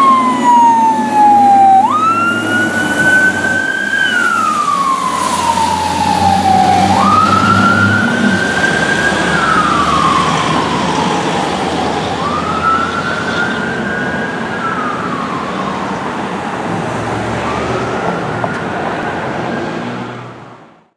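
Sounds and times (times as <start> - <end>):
fire engine siren wailing: 0.0 - 20.8.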